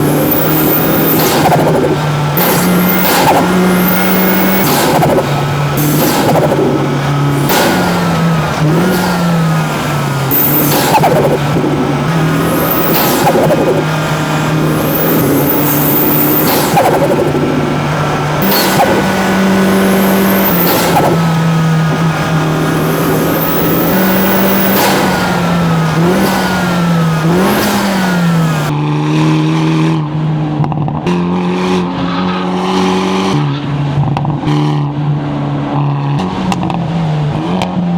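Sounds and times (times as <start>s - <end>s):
car engine revving: 0.0s - 37.9s.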